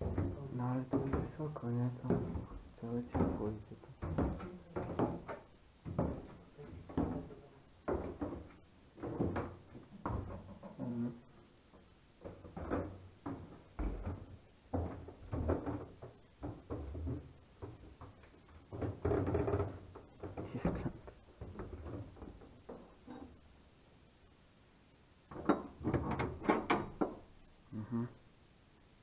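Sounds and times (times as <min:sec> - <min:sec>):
knocks and thumps: 0:00.0 - 0:23.2, 0:25.3 - 0:27.4.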